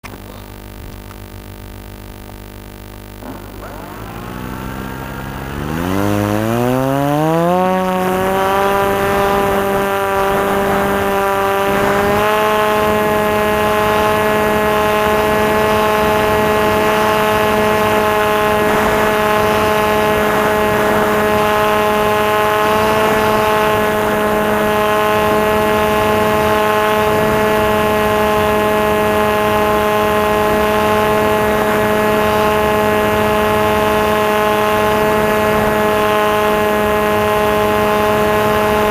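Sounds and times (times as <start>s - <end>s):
electric motor and propeller whine: 0.1s - 38.9s.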